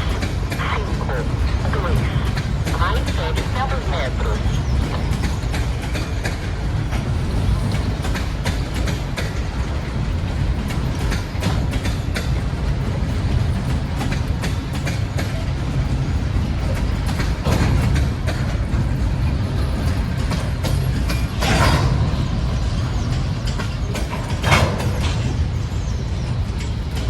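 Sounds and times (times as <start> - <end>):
freight train rumbling past: 0.0 - 27.0
wheels clicking over rail joints: 0.0 - 27.0.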